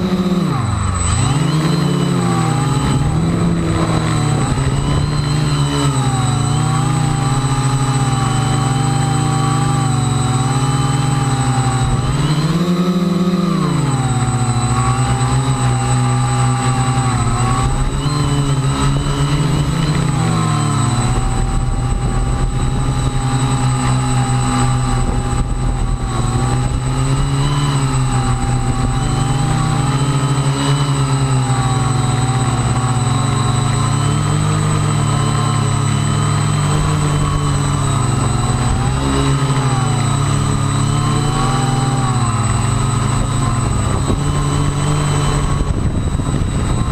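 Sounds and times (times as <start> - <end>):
quadcopter motors and propellers: 0.0 - 46.9.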